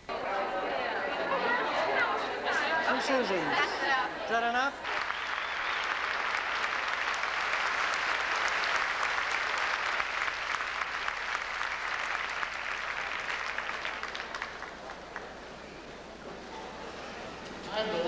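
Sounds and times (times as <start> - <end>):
crowd applauding: 0.0 - 16.2.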